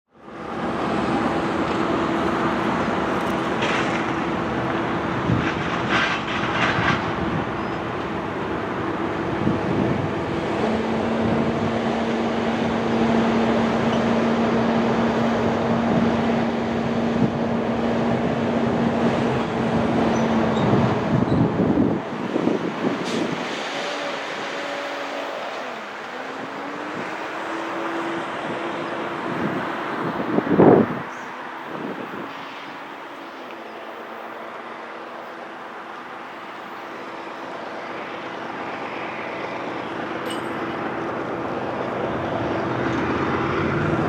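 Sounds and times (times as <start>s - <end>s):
freight train rumbling past: 0.2s - 44.0s.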